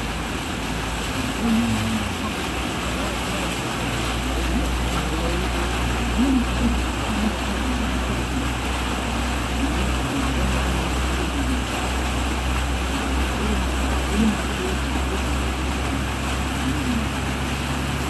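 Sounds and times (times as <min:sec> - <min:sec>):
van engine running: 0:00.0 - 0:18.0
water splashing from wheels: 0:00.0 - 0:18.0.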